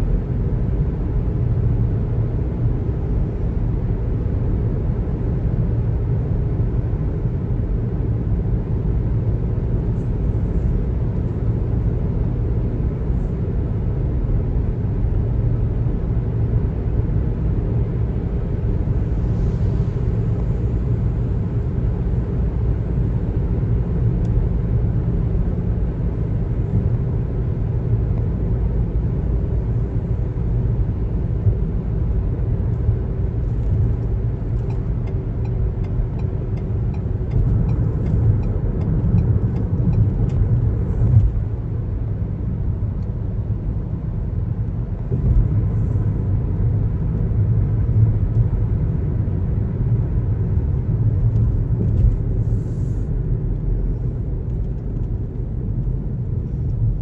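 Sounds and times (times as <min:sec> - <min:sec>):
road and tyre noise: 0:00.0 - 0:57.0.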